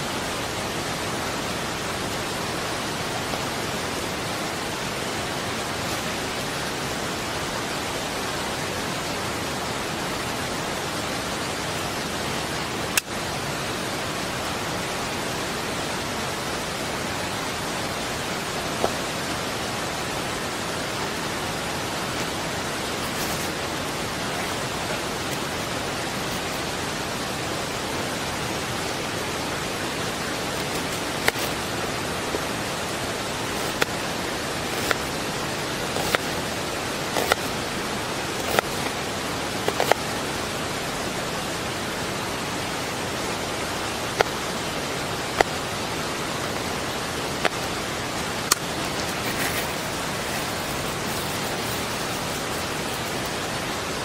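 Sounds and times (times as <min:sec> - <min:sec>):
rushing water hiss: 0:00.0 - 0:54.0.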